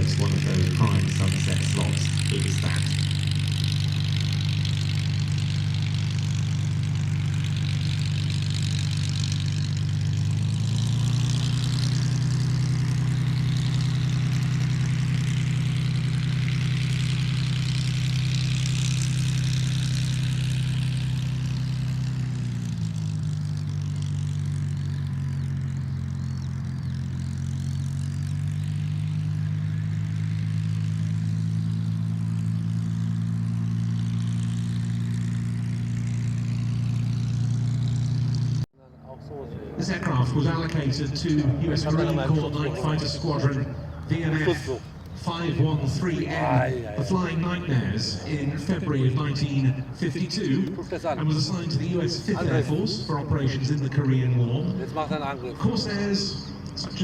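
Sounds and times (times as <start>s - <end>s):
propeller plane piston engine: 0.0s - 38.7s, 39.3s - 57.0s.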